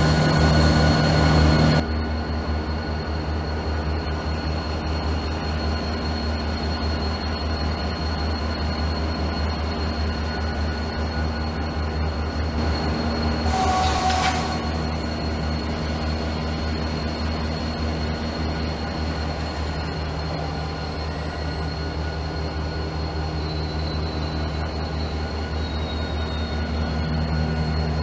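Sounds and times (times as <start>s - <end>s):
low train hum: 0.0s - 28.0s.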